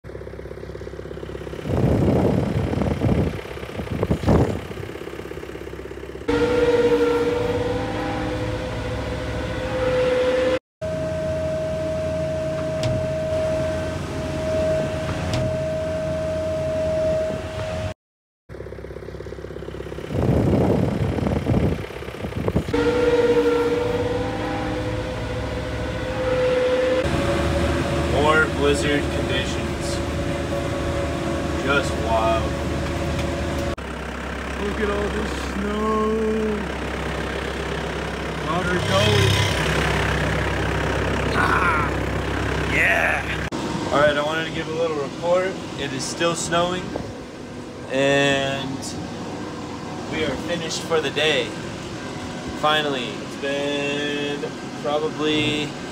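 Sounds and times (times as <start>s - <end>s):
snowblower engine humming: 0.1s - 16.8s, 18.5s - 55.9s
tractor whining drone: 0.2s - 18.0s, 18.7s - 55.9s.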